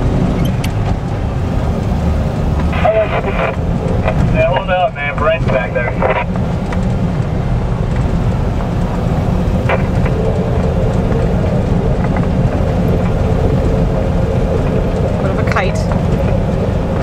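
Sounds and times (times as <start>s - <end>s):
vehicle driving on sand: 0.0s - 17.0s.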